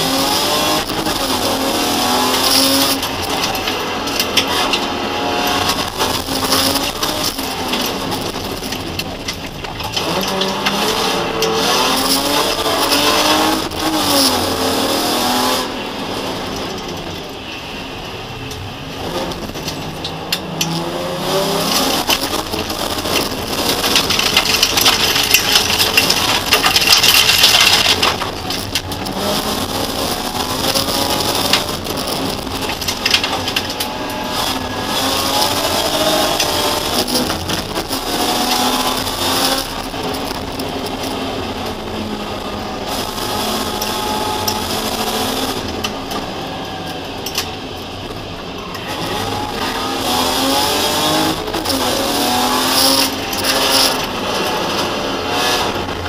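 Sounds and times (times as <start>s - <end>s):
car engine revving and shifting: 0.0s - 56.0s.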